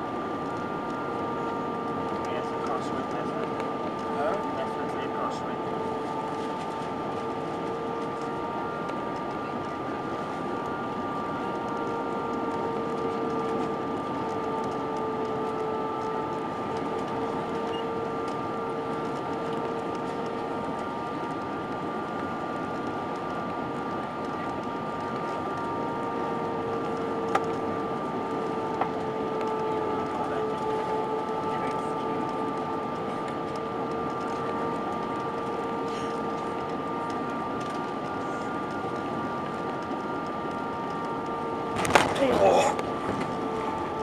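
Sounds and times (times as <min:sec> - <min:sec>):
jet engines humming: 0:00.0 - 0:44.0.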